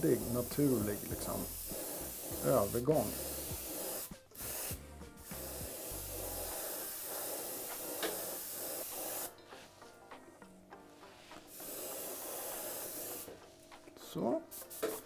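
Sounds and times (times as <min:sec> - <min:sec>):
airbrush hissing: 0:00.0 - 0:09.4, 0:11.0 - 0:13.6, 0:14.5 - 0:15.0.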